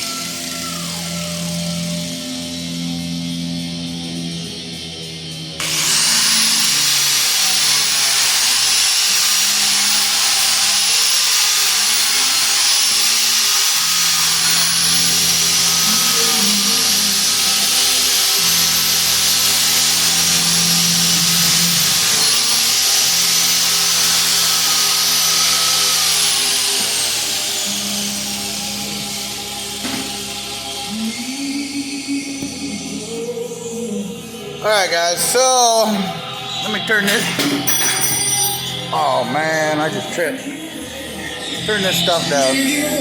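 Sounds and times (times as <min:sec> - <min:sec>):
power tool whining: 0:00.0 - 0:43.0.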